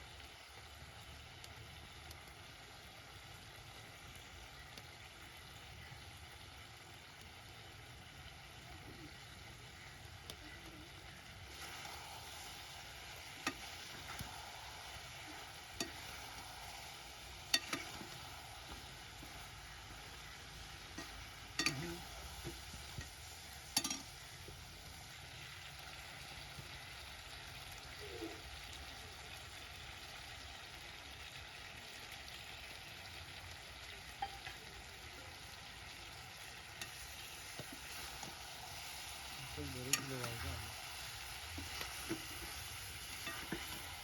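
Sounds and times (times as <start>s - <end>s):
curry sizzling in a pot: 0.0s - 44.0s.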